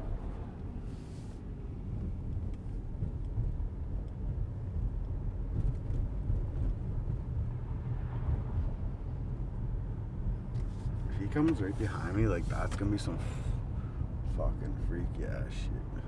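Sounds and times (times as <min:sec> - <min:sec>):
road and engine rumble in car: 0:00.0 - 0:16.0.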